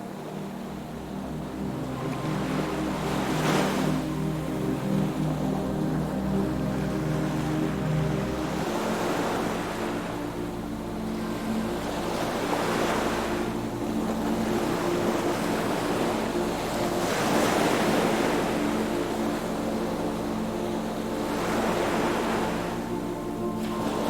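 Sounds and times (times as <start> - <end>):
sea waves washing in: 0.0 - 24.0
soft low music notes: 0.0 - 24.0.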